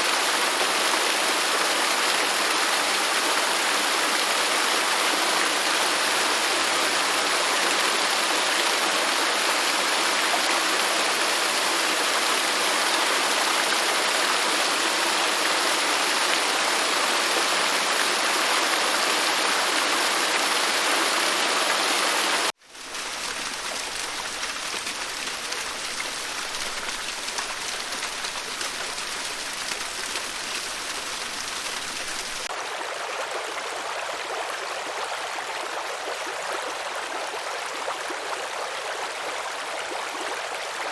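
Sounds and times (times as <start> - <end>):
flowing water: 0.0 - 40.9
thin flowing stream: 0.0 - 40.9.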